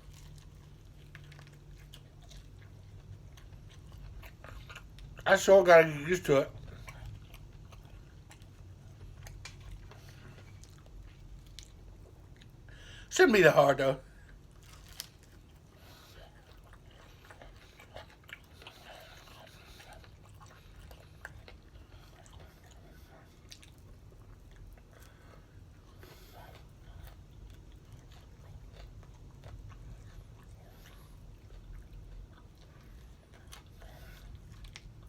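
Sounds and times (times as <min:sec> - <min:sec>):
chewing with crunches: 0:00.0 - 0:13.2, 0:13.8 - 0:35.0
steady low hum: 0:00.0 - 0:35.0.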